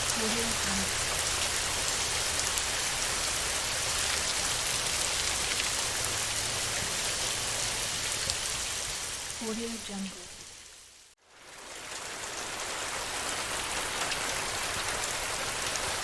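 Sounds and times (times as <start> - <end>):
ticks of single raindrops: 0.0 - 11.0, 13.6 - 16.0
steady rain falling: 0.0 - 16.0.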